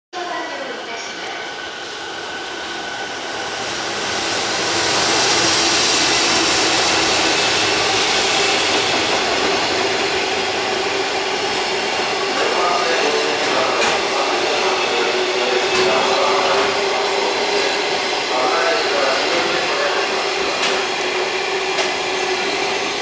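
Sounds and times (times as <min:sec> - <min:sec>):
freight train wheels on rail: 0:00.2 - 0:23.0.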